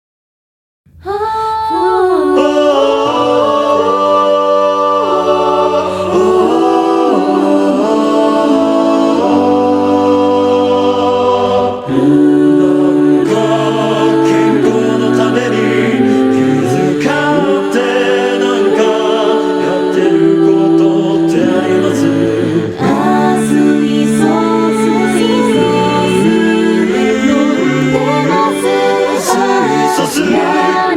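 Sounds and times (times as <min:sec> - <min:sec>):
unaccompanied choir singing: 0:01.1 - 0:30.9.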